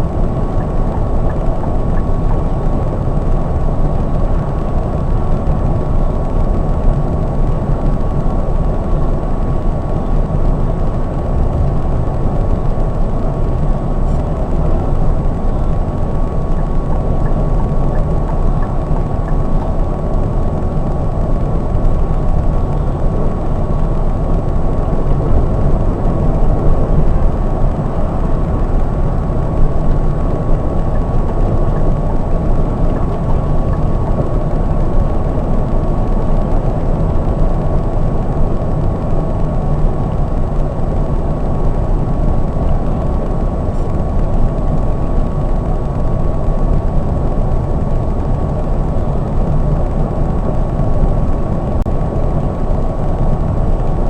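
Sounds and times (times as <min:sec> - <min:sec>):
coach engine and road drone: 0:00.0 - 0:54.0
steady high whine: 0:00.0 - 0:54.0.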